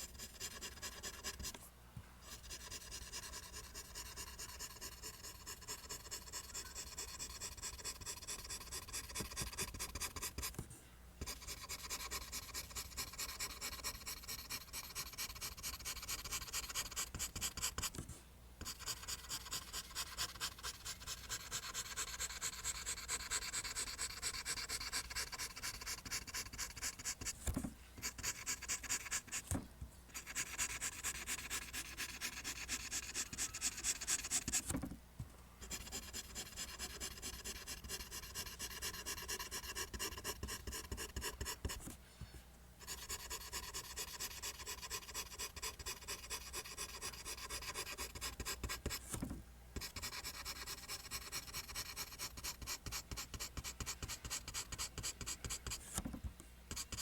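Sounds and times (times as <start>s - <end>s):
pencil scratching on paper: 0.0s - 1.6s, 2.2s - 10.6s, 11.2s - 18.0s, 18.6s - 34.8s, 35.6s - 42.0s, 42.8s - 49.2s, 49.8s - 56.1s, 56.7s - 57.0s.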